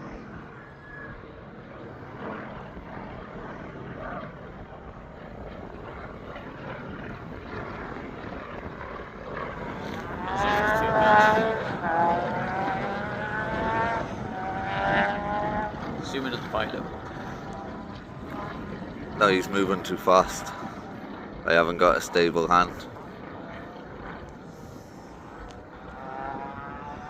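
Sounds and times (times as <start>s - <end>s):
propeller aircraft engine droning: 0.0s - 27.0s.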